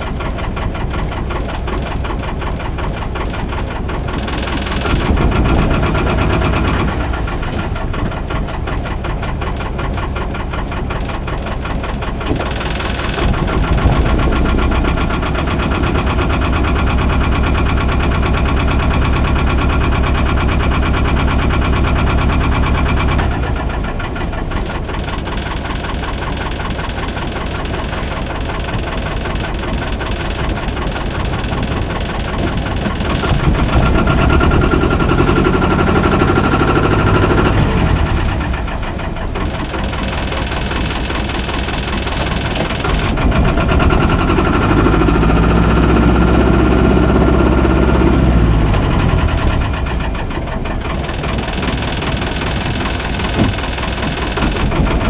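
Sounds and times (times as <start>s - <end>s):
marine engine knocking: 0.0s - 55.0s.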